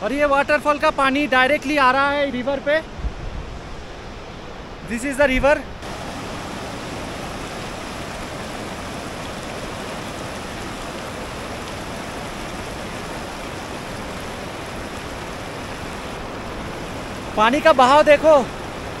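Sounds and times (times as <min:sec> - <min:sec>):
river rushing water roar: 0:00.0 - 0:19.0.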